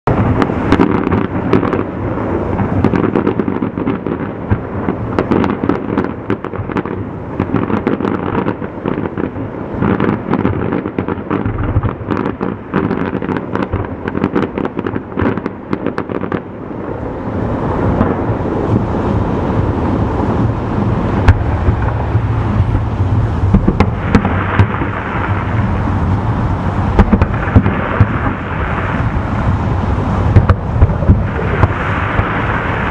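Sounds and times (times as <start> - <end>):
fireworks bangs and crackles: 0.1 - 32.9.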